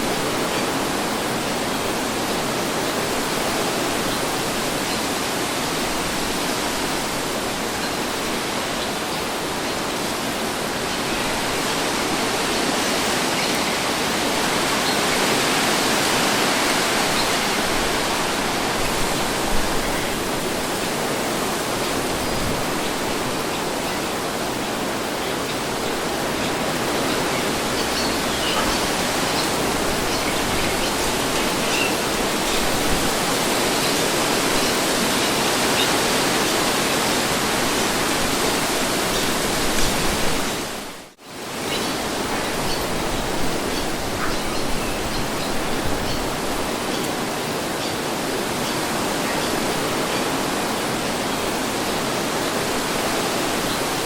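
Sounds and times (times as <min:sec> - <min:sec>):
wind rustling: 0:00.0 - 0:54.0.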